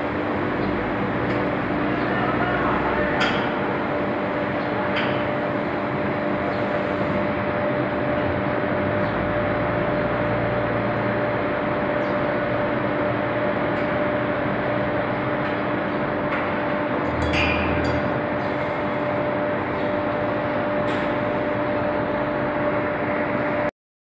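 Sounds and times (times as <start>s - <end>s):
loud industrial hum: 0.0s - 23.7s.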